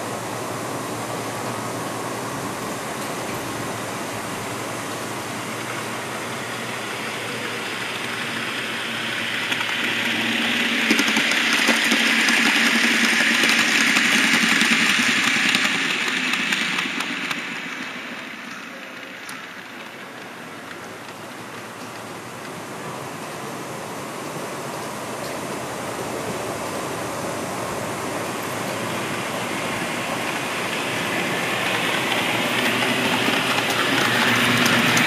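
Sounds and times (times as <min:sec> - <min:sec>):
model train running on rails: 0:00.0 - 0:35.0.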